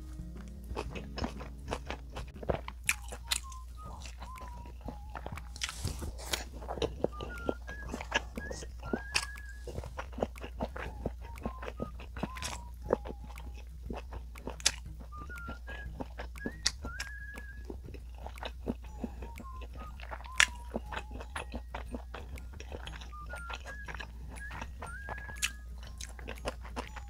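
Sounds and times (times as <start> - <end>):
chewing with crunches: 0.0 - 27.0
wet mouth clicks: 0.4 - 27.0.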